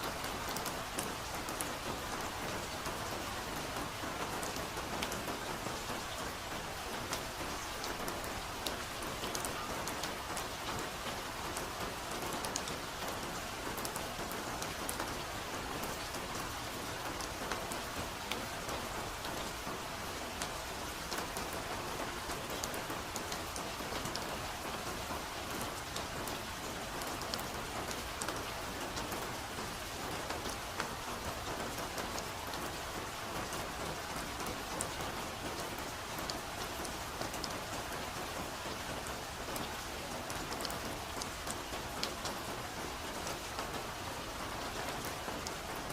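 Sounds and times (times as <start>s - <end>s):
raindrops pattering on leaves: 0.0s - 45.9s.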